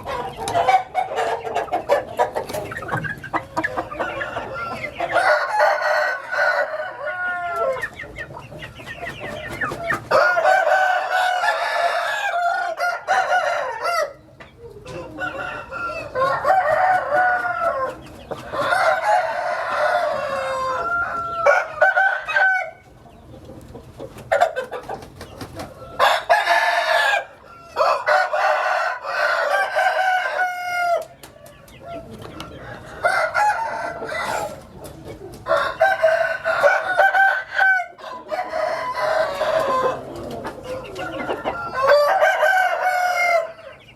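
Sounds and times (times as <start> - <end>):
roosters crowing: 0.0 - 23.0, 24.2 - 43.9
chickens clucking: 0.0 - 43.9.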